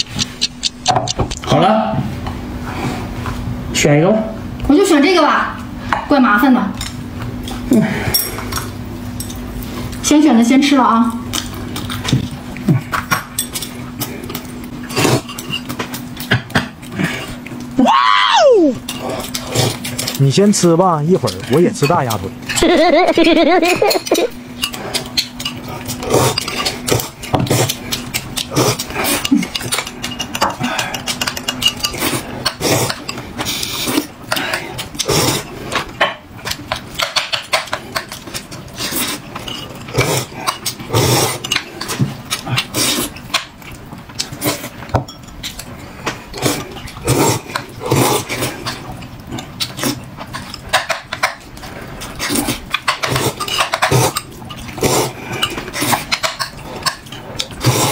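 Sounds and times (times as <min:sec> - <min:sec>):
utensils clinking against dishes: 0:06.0 - 0:09.4, 0:11.2 - 0:17.4, 0:18.8 - 0:57.9.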